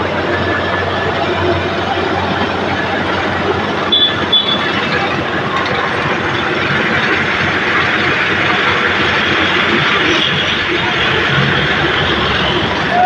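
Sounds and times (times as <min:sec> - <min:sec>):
road-paving machinery rattling: 0:00.0 - 0:13.0.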